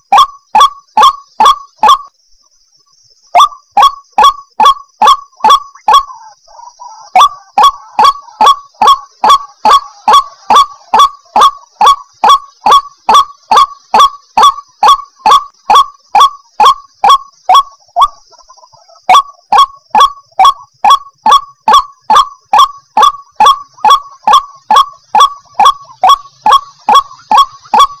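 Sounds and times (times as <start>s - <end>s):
waterhen calling harsh notes: 0.0s - 2.1s, 3.4s - 28.0s.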